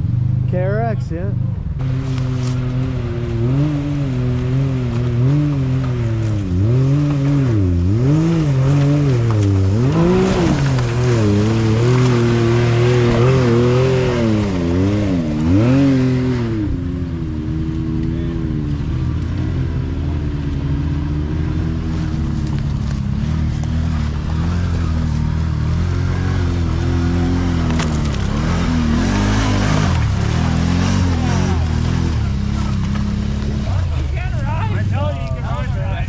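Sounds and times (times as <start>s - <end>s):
atv engine revving: 0.0s - 36.0s
engine revving in mud: 0.0s - 36.0s.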